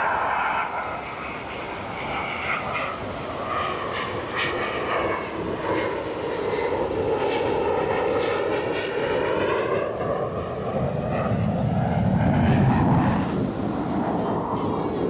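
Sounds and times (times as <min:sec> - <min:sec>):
aircraft engine drone passing: 0:00.0 - 0:15.0.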